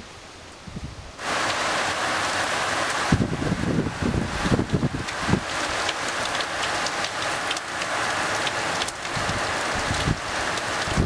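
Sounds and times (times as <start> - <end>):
heavy rain pouring: 0.0 - 11.0
rain drop impacts: 1.2 - 11.0.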